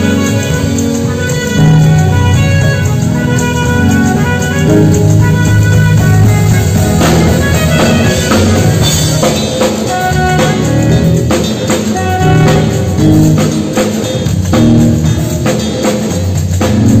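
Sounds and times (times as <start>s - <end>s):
drum kit beat: 0.0s - 17.0s
instrumental band music: 0.0s - 17.0s.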